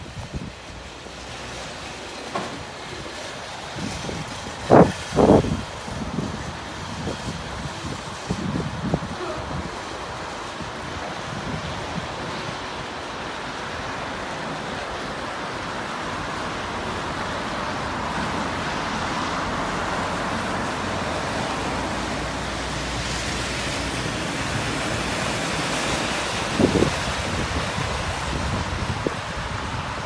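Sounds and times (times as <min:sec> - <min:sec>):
wind buffeting microphone: 0:00.0 - 0:13.8, 0:17.4 - 0:30.0
road traffic noise: 0:00.0 - 0:30.0.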